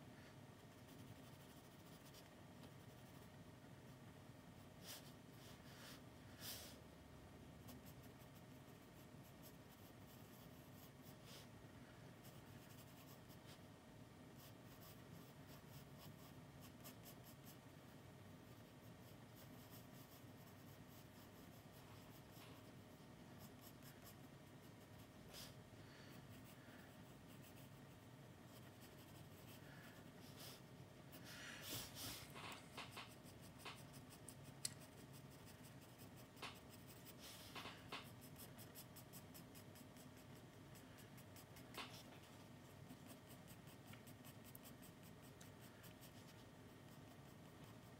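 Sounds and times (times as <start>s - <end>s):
pencil scratching on paper: 0.6s - 3.4s, 7.6s - 11.5s, 12.2s - 13.7s, 14.3s - 17.6s, 18.5s - 47.9s.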